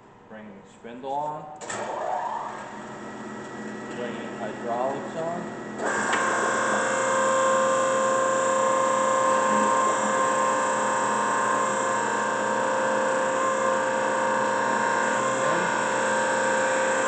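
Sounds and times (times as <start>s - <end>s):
grinder machine hum and whine: 1.6s - 17.0s.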